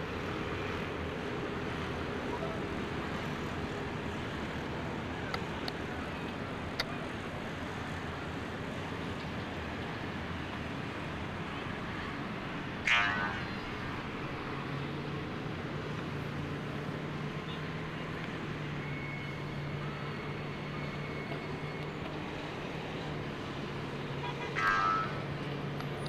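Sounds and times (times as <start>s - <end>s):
traffic noise: 0.0s - 26.0s.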